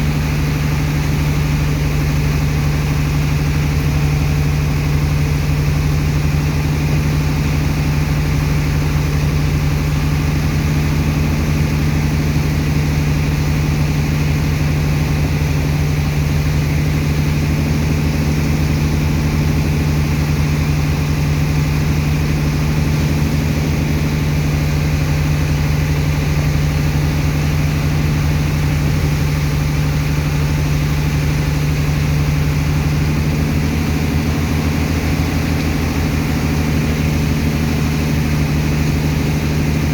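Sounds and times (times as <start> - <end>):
pump engine humming: 0.0 - 39.9.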